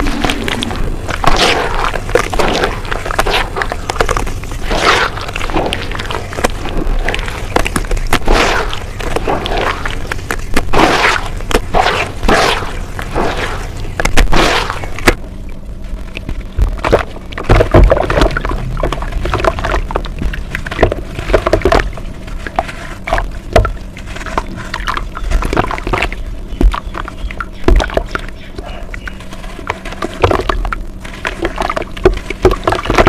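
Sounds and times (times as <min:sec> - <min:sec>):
dirt crunching and crumbling: 0:00.0 - 0:15.2, 0:15.8 - 0:33.0.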